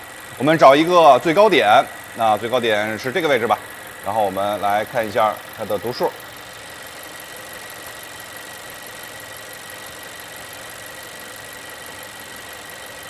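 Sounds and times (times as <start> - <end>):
car engine idling: 0.0 - 13.0
thin high whine: 0.0 - 13.0.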